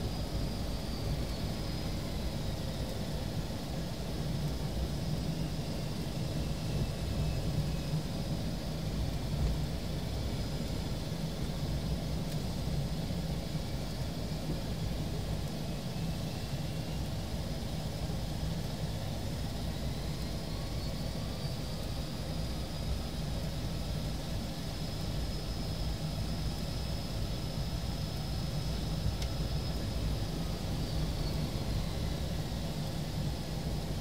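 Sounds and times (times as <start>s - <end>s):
aircraft engines rumbling: 0.0s - 34.0s
high engine whine: 0.0s - 34.0s.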